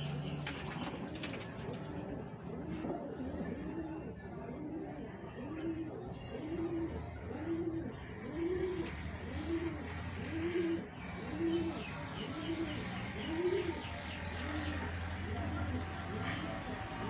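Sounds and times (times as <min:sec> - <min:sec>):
pigeon cooing: 0:00.0 - 0:17.0.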